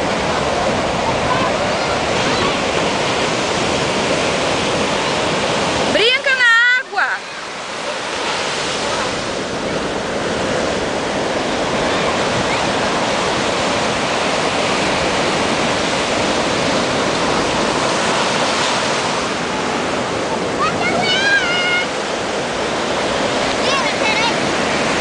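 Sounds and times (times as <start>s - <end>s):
ocean waves breaking on beach: 0.0s - 25.0s.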